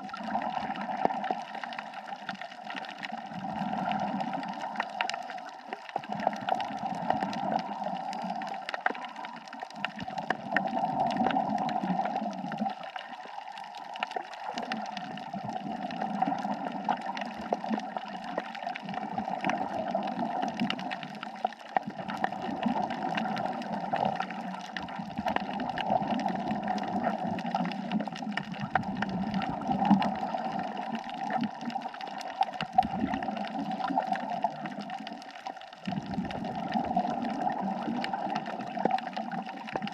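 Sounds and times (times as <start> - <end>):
water gurgling underwater: 0.0 - 39.9.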